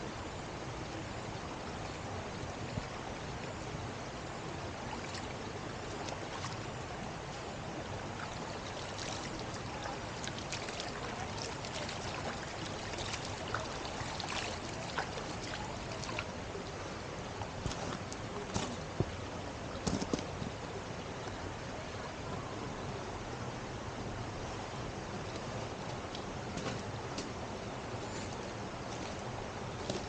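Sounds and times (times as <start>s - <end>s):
stream running over rocks: 0.0s - 30.0s.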